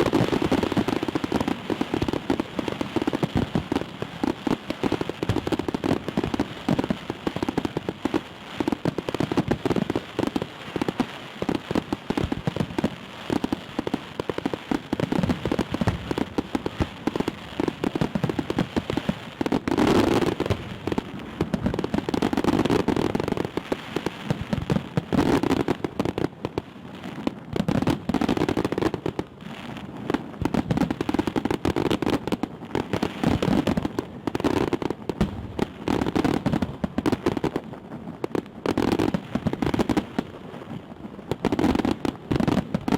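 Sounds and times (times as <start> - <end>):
fireworks crackling and popping: 0.0 - 42.9
heavy firework bursts: 0.0 - 42.9.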